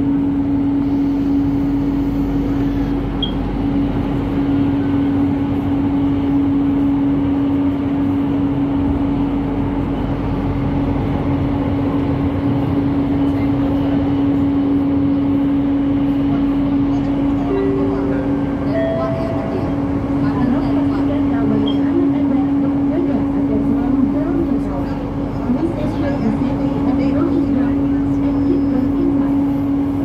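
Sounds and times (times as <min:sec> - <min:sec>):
train running noise with hum: 0:00.0 - 0:30.0.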